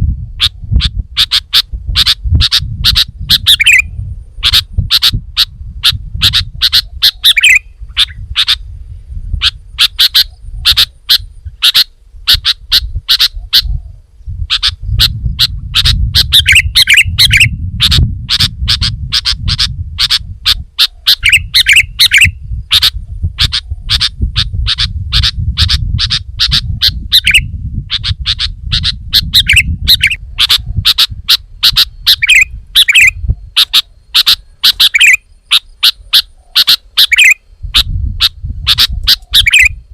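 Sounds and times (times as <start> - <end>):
bulbul chirping: 1.2 - 8.6, 9.4 - 13.7, 14.5 - 24.1, 24.7 - 39.8.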